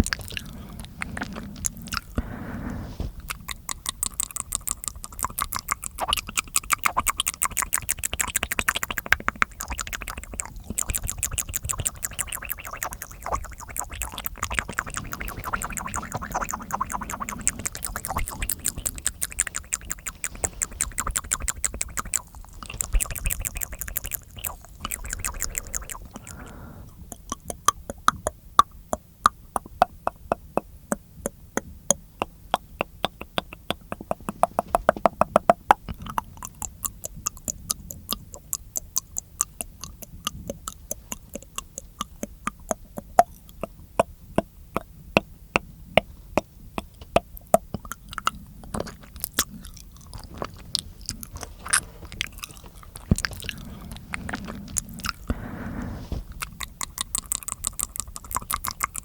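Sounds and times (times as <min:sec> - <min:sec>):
wet mouth clicks and smacks: 0:00.0 - 0:02.4, 0:03.2 - 0:59.0
soft low hum: 0:00.0 - 0:05.4, 0:10.2 - 0:32.8, 0:33.6 - 0:59.0
chewing-like sounds: 0:00.0 - 0:59.0.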